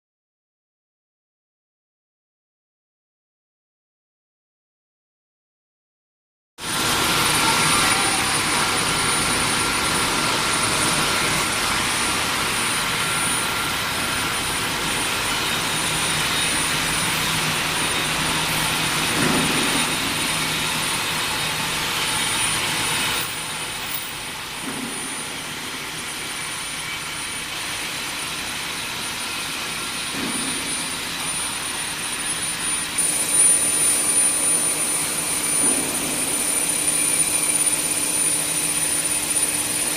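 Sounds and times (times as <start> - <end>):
loud hissing machine noise: 6.6 - 39.9.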